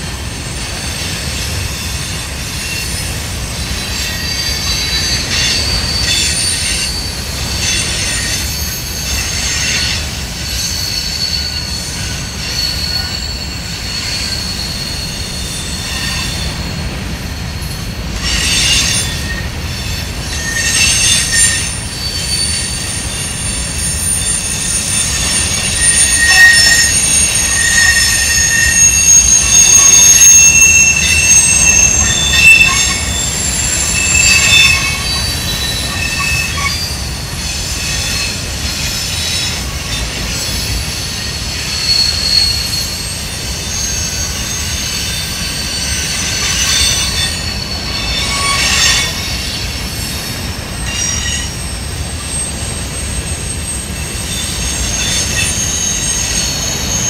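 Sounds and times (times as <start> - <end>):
train rolling rumble: 0.0 - 57.0
train wheels squealing: 0.0 - 57.0.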